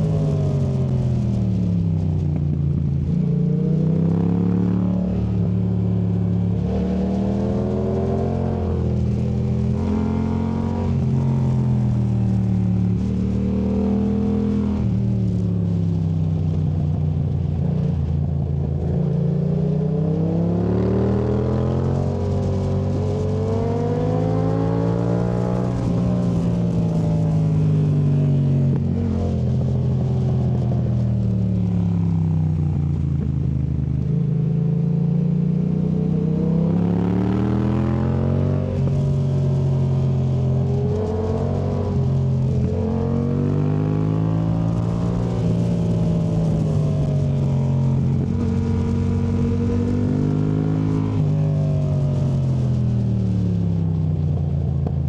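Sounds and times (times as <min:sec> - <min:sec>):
motorcycle engine revving: 0:02.6 - 0:15.5, 0:18.8 - 0:54.2.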